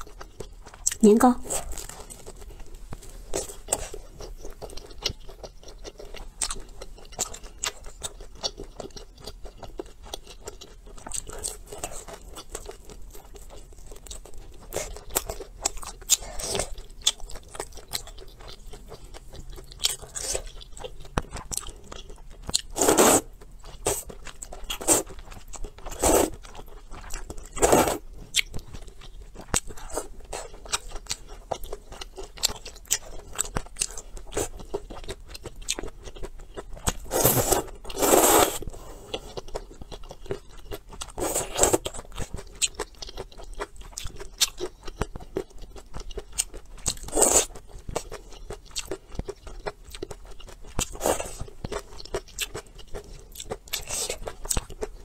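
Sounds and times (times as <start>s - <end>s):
wet chewing and biting: 0.0s - 55.0s.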